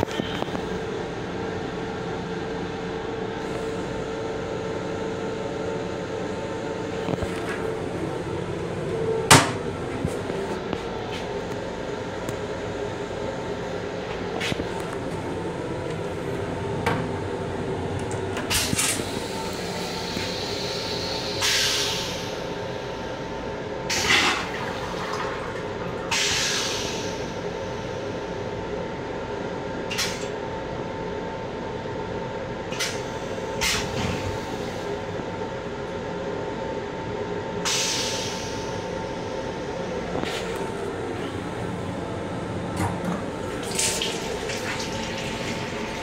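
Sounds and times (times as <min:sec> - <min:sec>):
railcar hum: 0:00.0 - 0:46.0.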